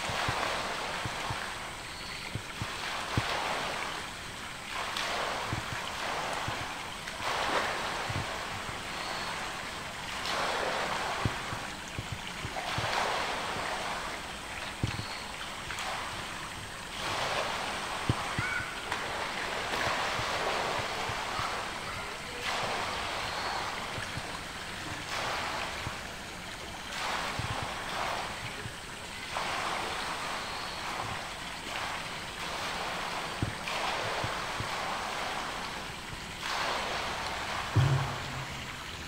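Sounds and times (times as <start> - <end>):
pool water sloshing: 0.0 - 39.0.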